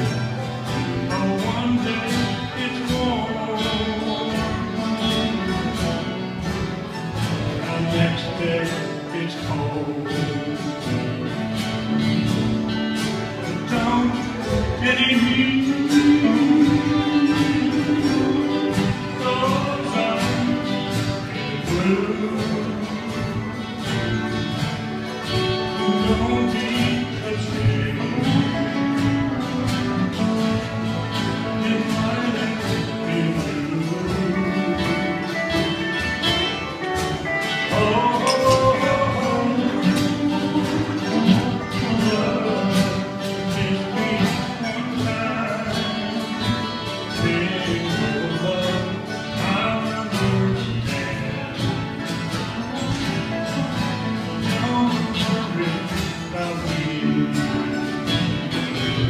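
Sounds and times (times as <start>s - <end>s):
guitar-led jam music: 0.0s - 59.0s.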